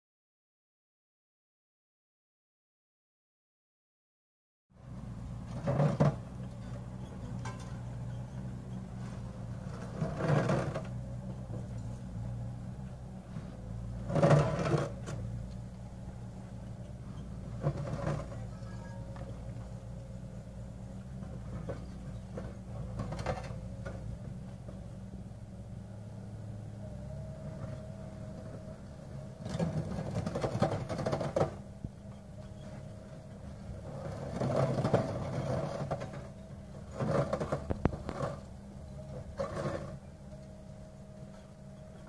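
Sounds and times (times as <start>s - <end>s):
excavator engine and hydraulics: 4.8s - 42.0s.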